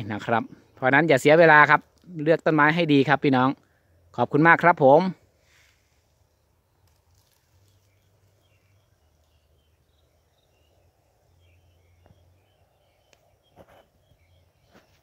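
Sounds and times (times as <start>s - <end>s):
high chirps of birds or insects: 0.0s - 15.0s.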